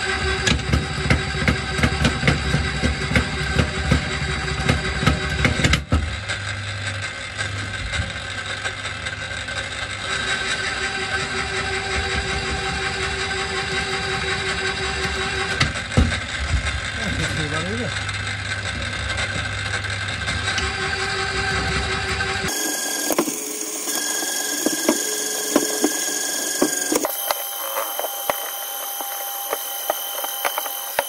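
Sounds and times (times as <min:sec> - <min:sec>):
motor and gear hum: 0:00.0 - 0:31.0.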